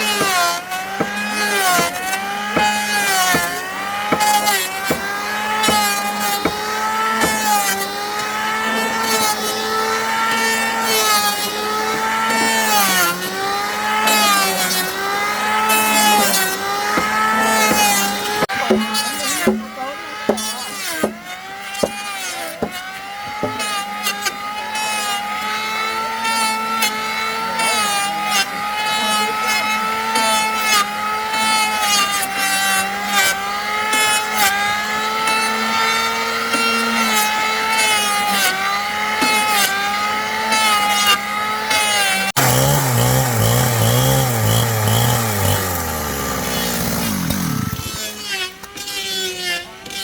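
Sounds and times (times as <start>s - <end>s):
power tool motor whining on wood: 0.0s - 50.0s.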